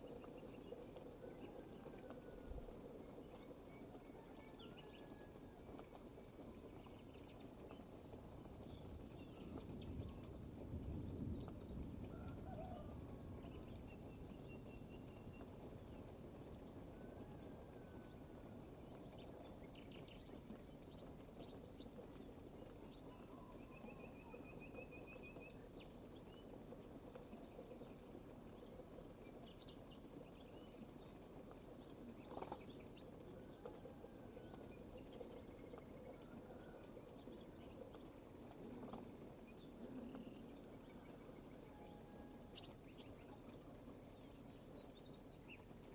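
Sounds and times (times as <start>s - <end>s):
faint birdsong chirps: 0.0s - 45.9s.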